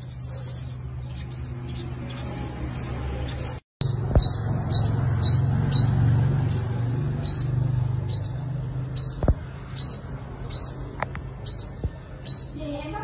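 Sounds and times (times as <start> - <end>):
sunbird calling: 0.0 - 13.0.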